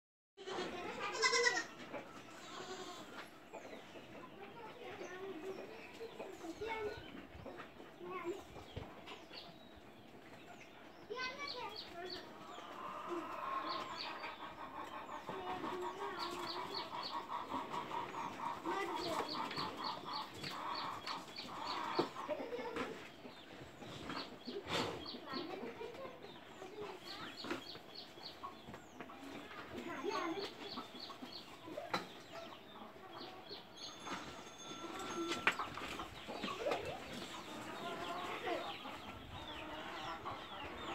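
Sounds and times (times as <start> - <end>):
birds chirping: 0.4 - 40.9
birds clucking: 0.4 - 40.9.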